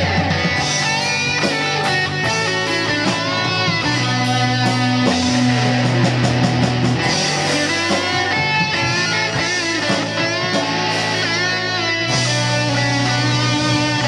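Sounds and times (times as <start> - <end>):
electric guitars: 0.0 - 14.0
live rock band playing: 0.0 - 14.0.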